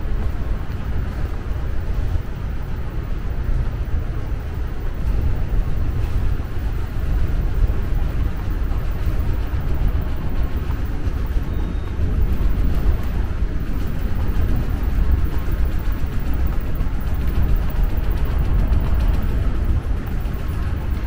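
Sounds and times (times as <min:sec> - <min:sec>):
subway low rumble: 0:00.0 - 0:21.0.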